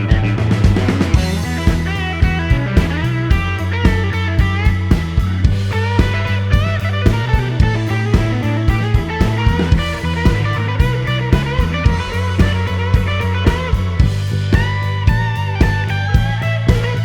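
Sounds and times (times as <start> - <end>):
electric guitar: 0.0 - 17.0
steady drum beat: 0.0 - 17.0.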